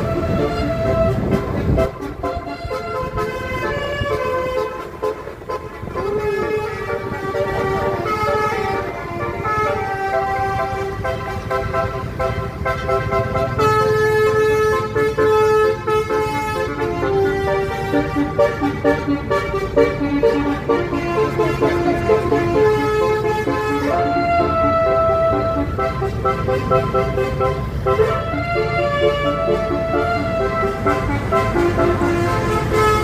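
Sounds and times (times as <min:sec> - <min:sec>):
musical bus horn melody: 0:00.0 - 0:33.0.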